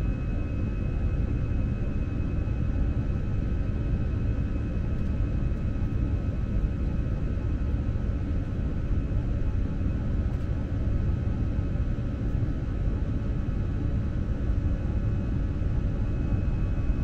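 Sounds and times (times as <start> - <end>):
jet engine and airflow rumble: 0.0 - 17.0.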